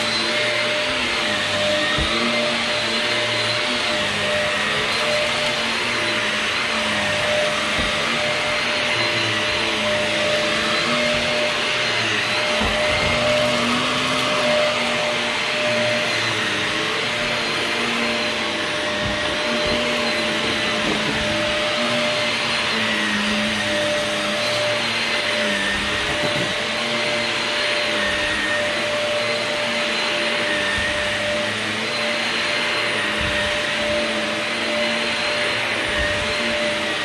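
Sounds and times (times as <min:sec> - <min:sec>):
vacuum cleaner bumps: 0:00.0 - 0:37.0
vacuum cleaner running: 0:00.0 - 0:37.0.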